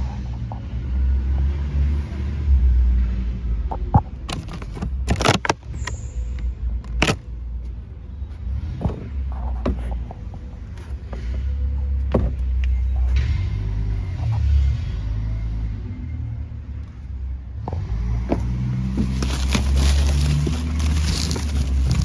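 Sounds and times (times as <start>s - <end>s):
truck engine idling: 1.9s - 22.0s.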